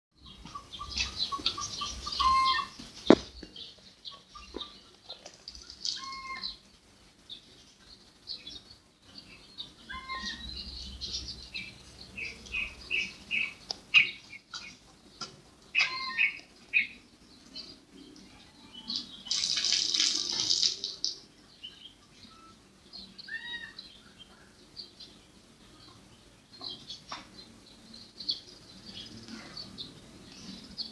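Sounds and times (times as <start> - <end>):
birds chirping: 0.2 - 30.9.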